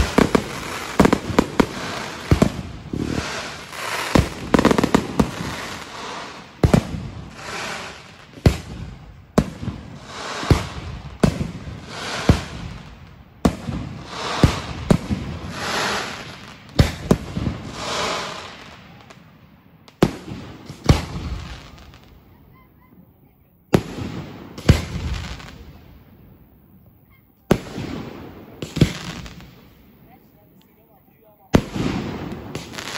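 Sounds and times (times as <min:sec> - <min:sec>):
fireworks bangs: 0:00.0 - 0:23.0, 0:23.7 - 0:30.2, 0:31.4 - 0:32.9
hissing crackling firework tails: 0:00.0 - 0:32.9.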